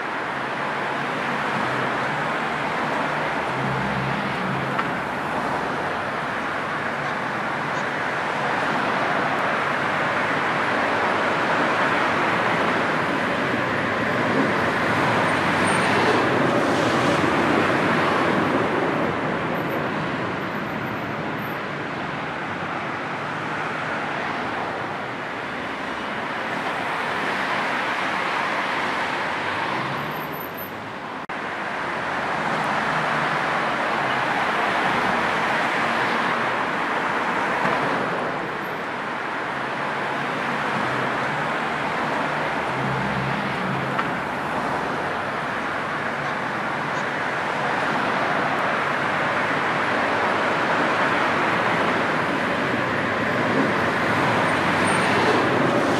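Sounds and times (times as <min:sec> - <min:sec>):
motorway traffic noise: 0:00.0 - 0:55.9.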